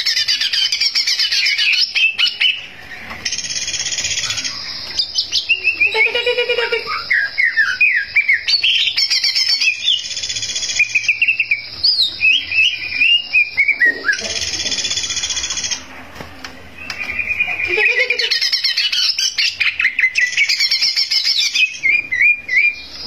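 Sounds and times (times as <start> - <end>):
bird singing chirps and whistles: 0.0 - 15.9, 16.8 - 23.0.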